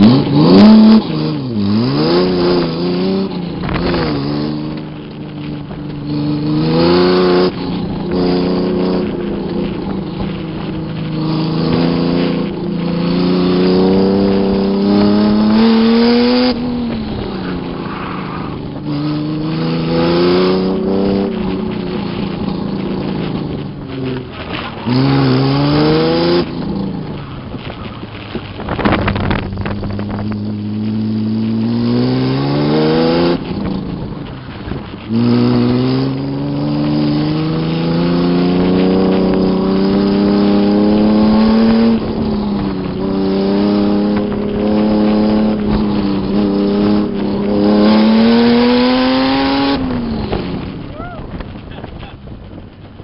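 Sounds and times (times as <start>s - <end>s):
car engine revving: 0.0s - 53.0s
wind rush: 0.0s - 53.0s.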